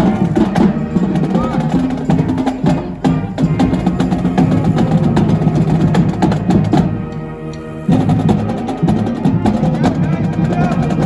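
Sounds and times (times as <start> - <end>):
brass band playing: 0.0 - 11.0
drums beating: 0.0 - 11.0.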